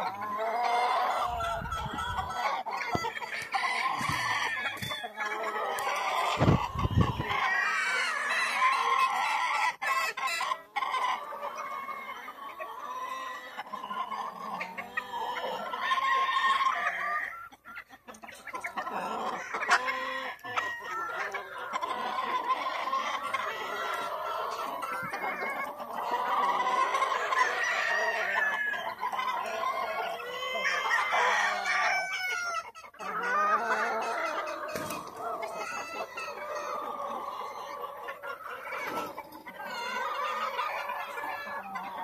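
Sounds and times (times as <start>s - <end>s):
chickens clucking: 0.0s - 42.0s
roosters crowing: 0.0s - 42.0s.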